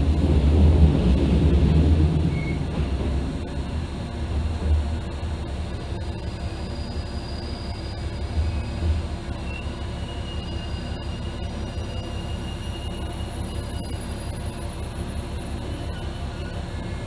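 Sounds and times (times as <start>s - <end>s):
diesel engine drone: 0.0s - 17.0s
rail and wheel noise: 0.0s - 17.0s.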